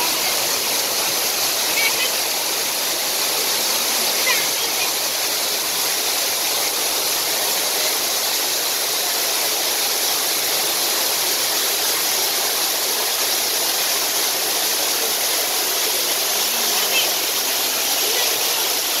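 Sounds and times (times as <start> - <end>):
waterfall splashing into pool: 0.0 - 19.0.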